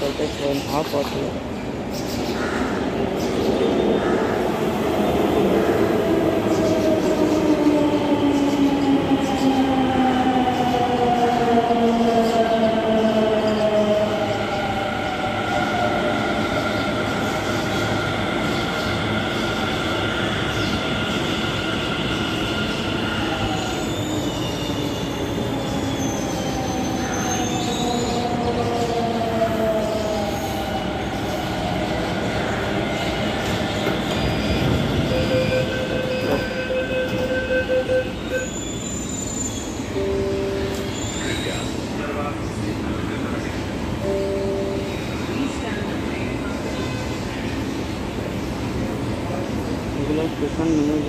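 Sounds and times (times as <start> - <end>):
steady train rumble: 0.0 - 51.0.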